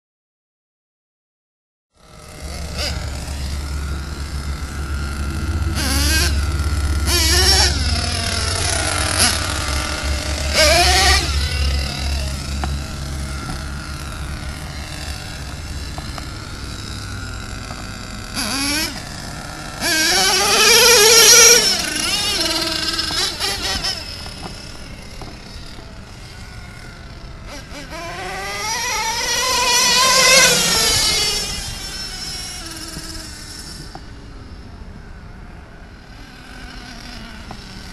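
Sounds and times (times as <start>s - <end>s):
model truck nitro engine revving: 2.0s - 37.9s.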